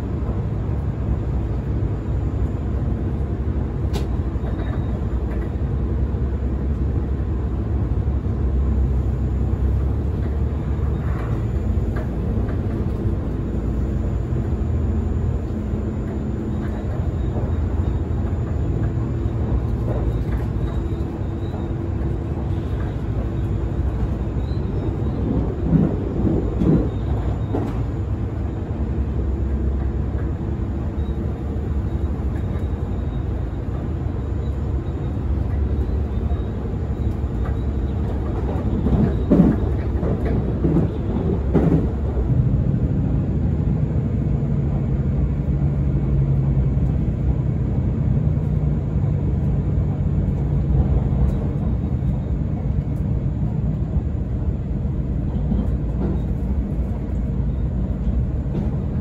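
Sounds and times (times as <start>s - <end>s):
train engine drone: 0.0s - 59.0s
wheels rumbling on rails: 0.0s - 59.0s.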